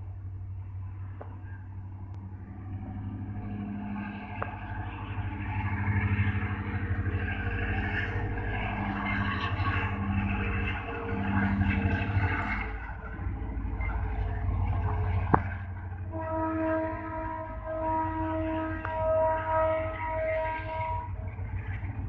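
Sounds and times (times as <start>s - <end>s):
diesel train engine drone: 0.0s - 22.0s.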